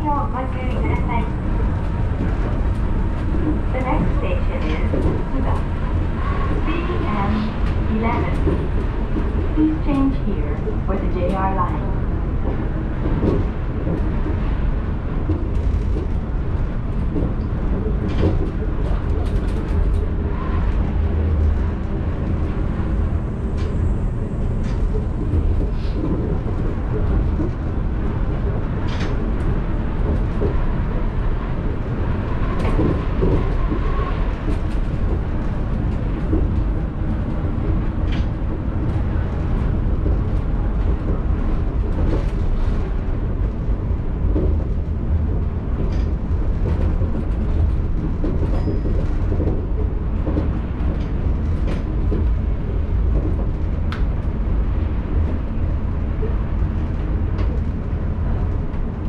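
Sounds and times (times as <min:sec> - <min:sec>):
monorail car low rumble: 0:00.0 - 0:59.0.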